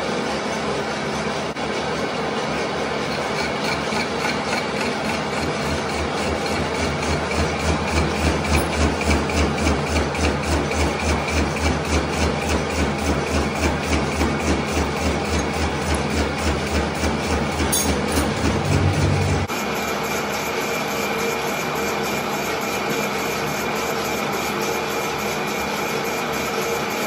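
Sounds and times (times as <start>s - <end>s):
lathe cutting metal: 0.0s - 27.0s.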